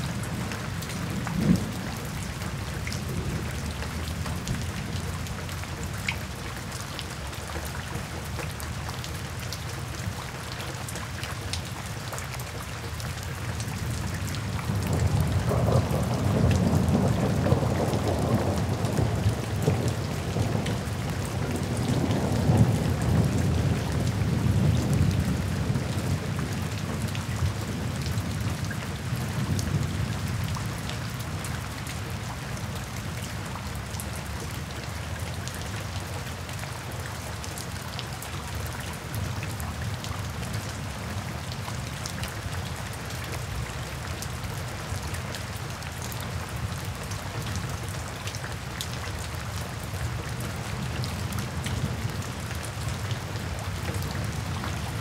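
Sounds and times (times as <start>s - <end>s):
rain on wet pavement: 0.0s - 55.0s.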